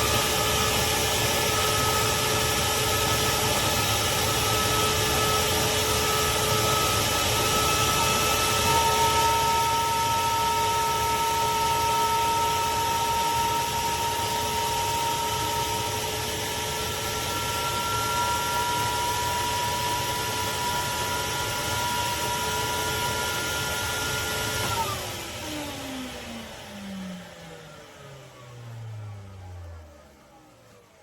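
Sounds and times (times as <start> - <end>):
shop vacuum running: 0.0 - 31.0.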